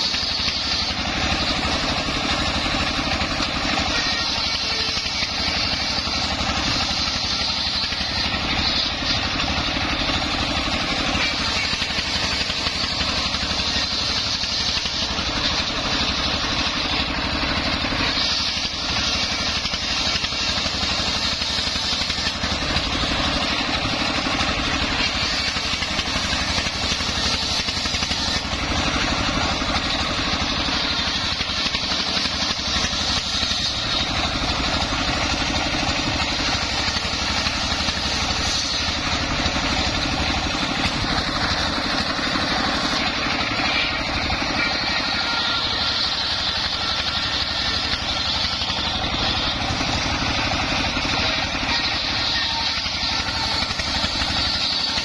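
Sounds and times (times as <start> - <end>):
circular saw blade spinning: 0.0 - 55.0
diesel engine running: 0.0 - 55.0.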